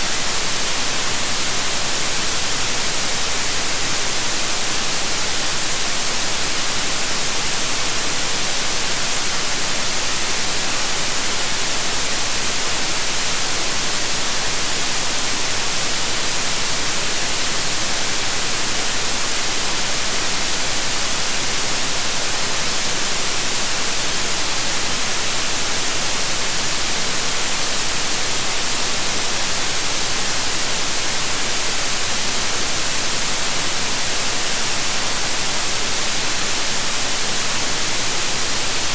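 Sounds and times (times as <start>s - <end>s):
electronic white noise: 0.0s - 38.9s.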